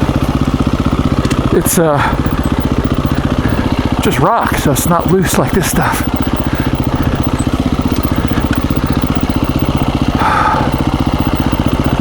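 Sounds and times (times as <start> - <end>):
motorcycle engine thumping at low revs: 0.0 - 12.0.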